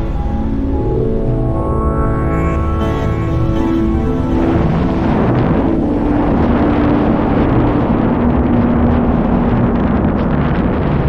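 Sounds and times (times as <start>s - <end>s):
wind roar on microphone: 0.0s - 11.0s.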